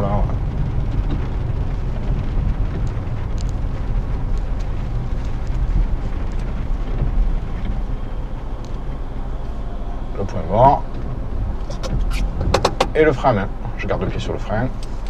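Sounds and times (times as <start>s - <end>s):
car engine running: 0.0s - 15.0s
tyres on wet road: 0.0s - 15.0s.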